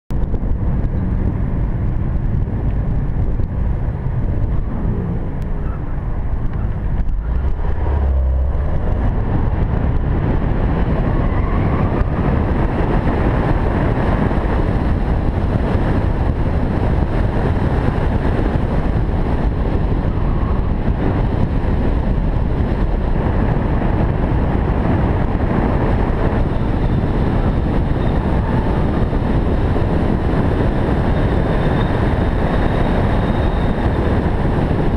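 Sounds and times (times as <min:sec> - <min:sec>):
car engine idling and accelerating: 0:00.1 - 0:34.9.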